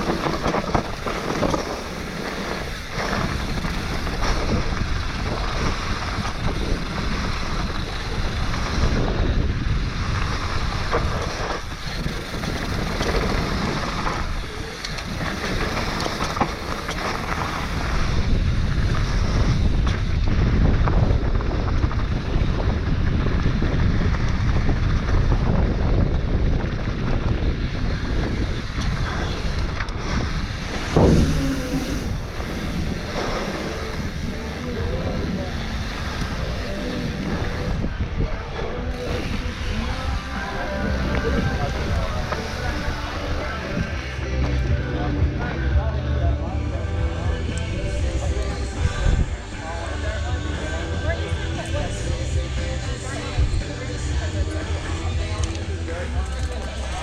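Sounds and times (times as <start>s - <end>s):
bike rattling: 0.0s - 57.0s
bike tyres rumbling on dirt: 0.0s - 57.0s
wind buffeting microphone: 0.0s - 57.0s.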